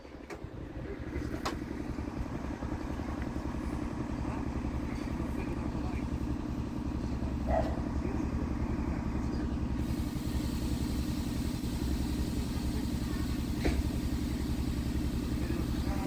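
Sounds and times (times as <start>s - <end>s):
train coaches rumbling: 0.0s - 16.0s.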